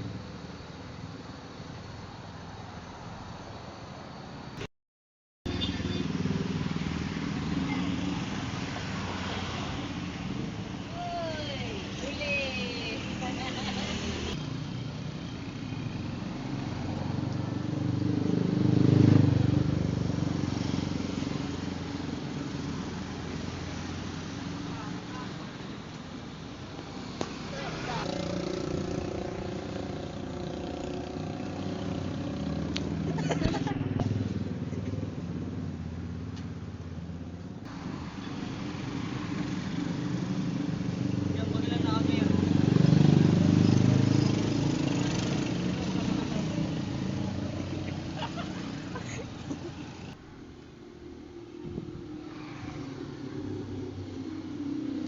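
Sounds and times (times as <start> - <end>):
vehicle engine passing by: 5.5 - 55.0.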